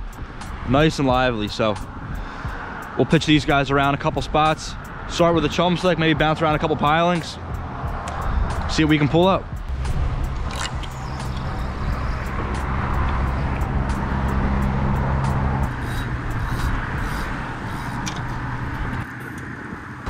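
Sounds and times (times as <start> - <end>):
traffic noise: 0.0 - 20.0
vehicle engine hum: 0.0 - 20.0.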